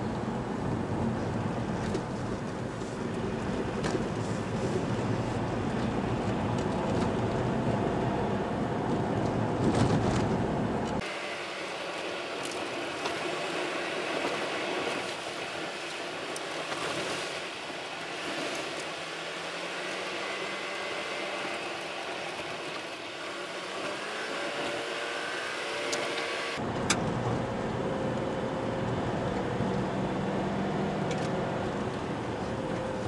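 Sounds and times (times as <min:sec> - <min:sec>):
car driving on road: 0:00.0 - 0:33.0.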